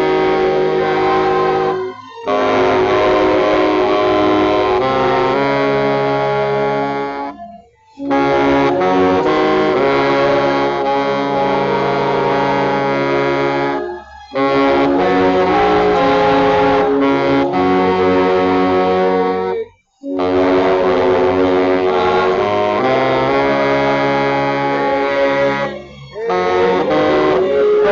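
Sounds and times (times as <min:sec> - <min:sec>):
baritone saxophone low notes: 0:00.0 - 0:27.9.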